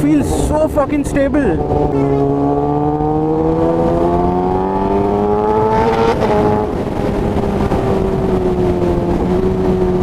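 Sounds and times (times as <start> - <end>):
motorcycle engine accelerating: 0.8 - 10.0.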